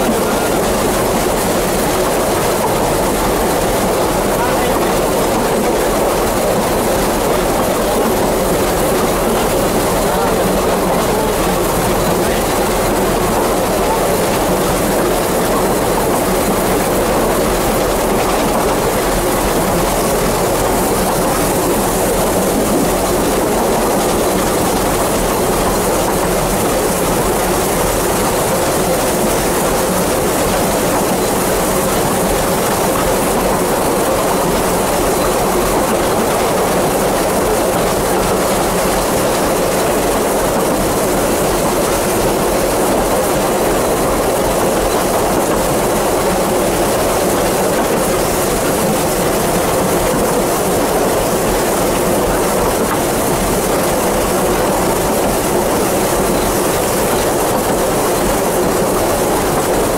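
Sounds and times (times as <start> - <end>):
train wheels on rail: 0.0 - 59.9.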